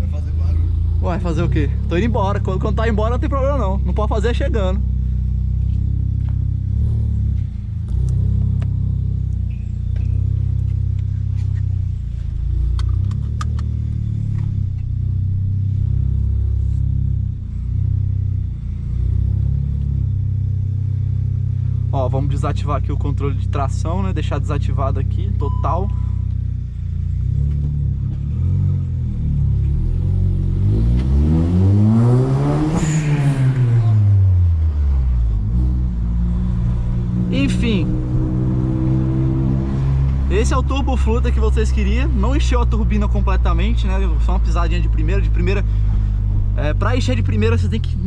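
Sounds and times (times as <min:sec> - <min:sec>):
car engine rumbling: 0:00.0 - 0:48.0.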